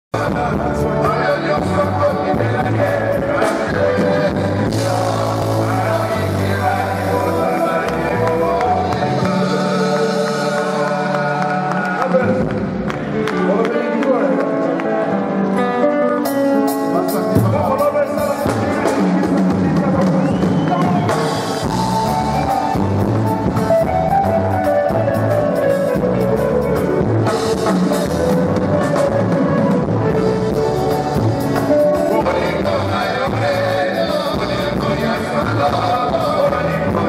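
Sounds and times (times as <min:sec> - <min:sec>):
drum kit beat: 0:00.1 - 0:13.1, 0:16.3 - 0:37.0
live band dance music: 0:00.1 - 0:37.0.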